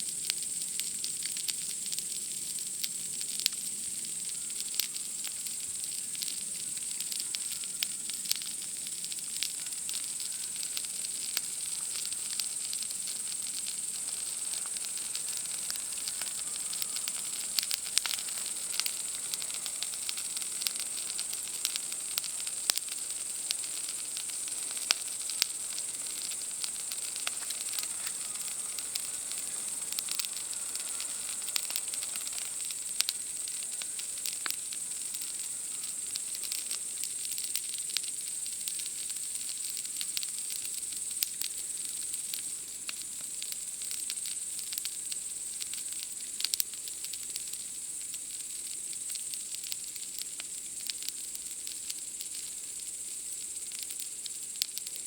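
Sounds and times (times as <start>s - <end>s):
campfire crackling and popping: 0.0s - 55.0s
night insects chorus: 0.1s - 55.0s.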